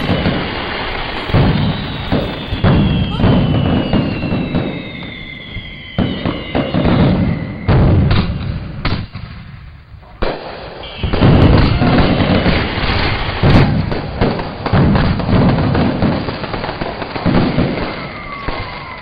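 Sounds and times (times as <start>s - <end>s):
fireworks booms and crackles: 0.0s - 19.0s.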